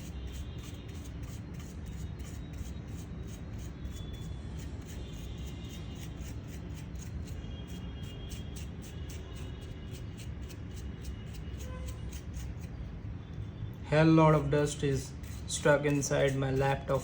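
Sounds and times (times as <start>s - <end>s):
small brush scratching on fan: 0.0s - 12.8s, 14.4s - 17.0s.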